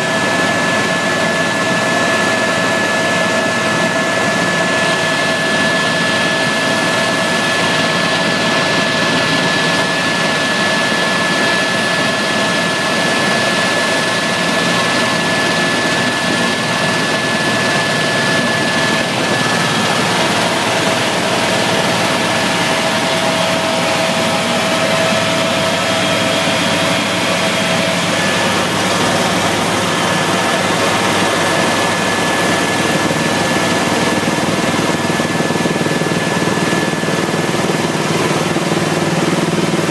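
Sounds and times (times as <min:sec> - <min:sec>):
helicopter engine and rotor drone: 0:00.0 - 0:39.9
high whine: 0:00.4 - 0:39.3.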